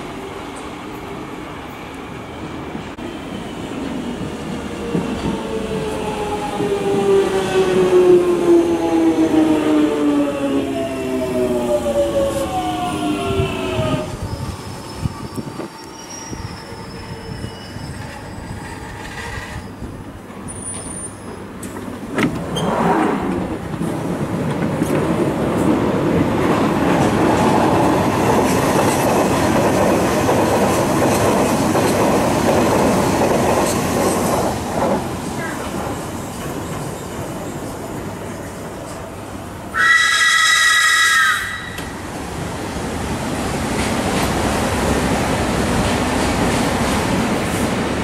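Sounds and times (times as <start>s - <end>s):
rushing rail noise: 0.0s - 48.0s.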